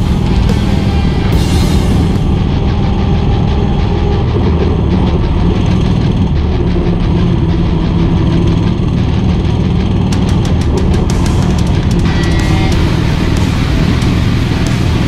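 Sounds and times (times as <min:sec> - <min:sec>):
mini bike engine running: 0:02.8 - 0:15.0.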